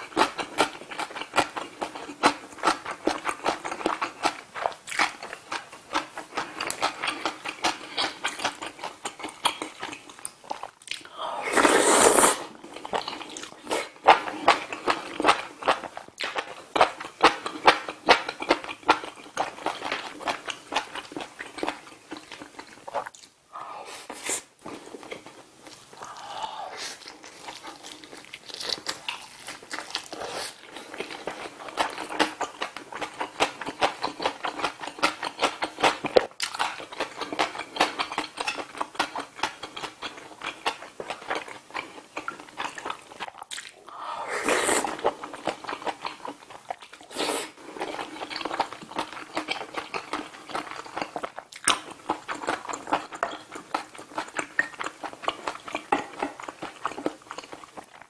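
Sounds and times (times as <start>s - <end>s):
wet chewing and mouth clicks: 0.0s - 23.4s, 24.1s - 58.0s.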